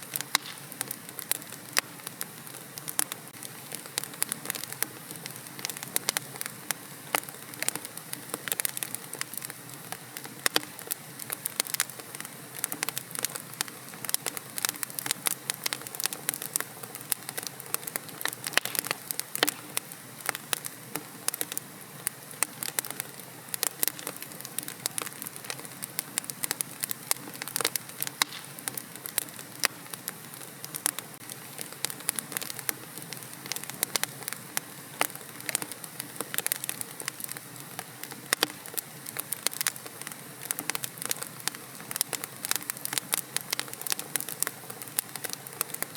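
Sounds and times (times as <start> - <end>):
fire hissing: 0.0 - 45.9
wood fire crackling and popping: 0.0 - 45.9.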